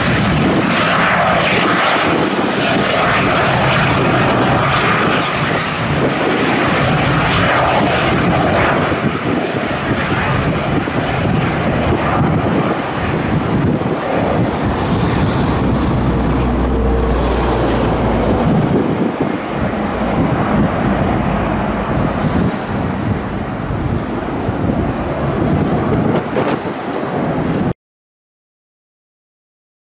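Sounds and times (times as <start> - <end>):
jet engines roaring: 0.0 - 27.8
wind buffeting microphone: 0.0 - 27.8.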